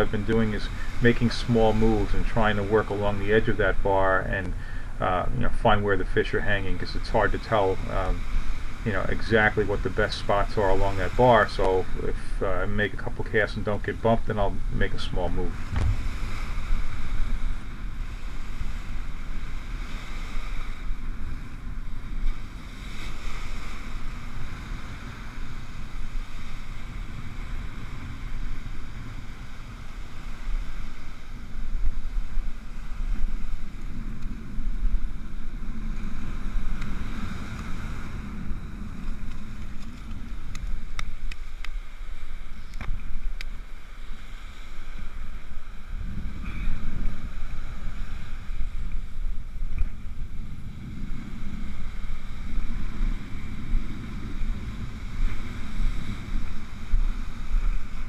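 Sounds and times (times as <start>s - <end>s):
surf washing up beach: 0.0s - 58.0s
wind buffeting microphone: 0.0s - 58.0s.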